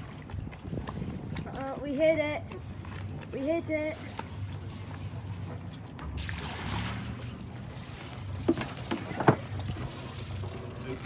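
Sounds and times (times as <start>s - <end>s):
boat engine idling: 0.0s - 6.3s, 7.0s - 11.0s.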